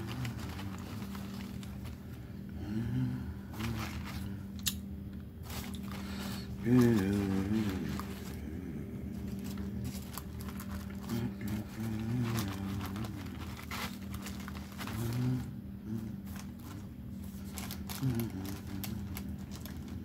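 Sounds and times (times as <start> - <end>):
short low voice hums: 0.0 - 4.7, 5.6 - 16.8, 17.5 - 20.0
steady low hum: 0.0 - 20.0.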